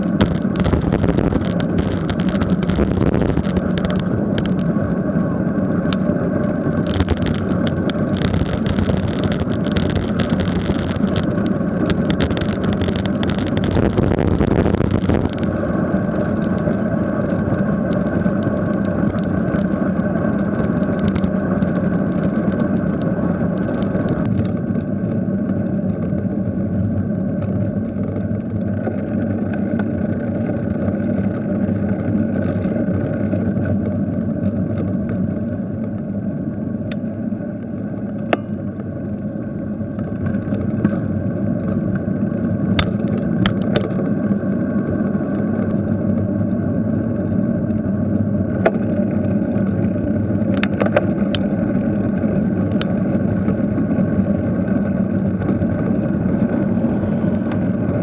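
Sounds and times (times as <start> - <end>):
bicycle tyre noise: 0.0 - 58.0
wind rushing over microphone: 0.0 - 58.0.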